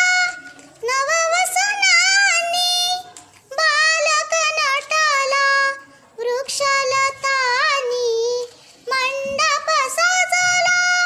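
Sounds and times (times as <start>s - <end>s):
girl singing: 0.0s - 11.0s.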